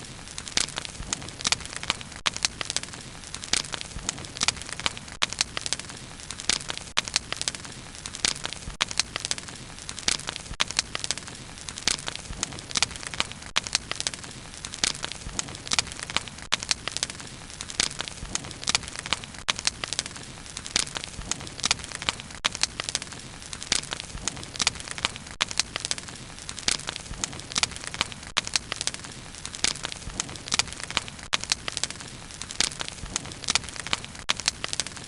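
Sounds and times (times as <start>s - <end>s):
bonfire wood crackling and popping: 0.0s - 35.0s.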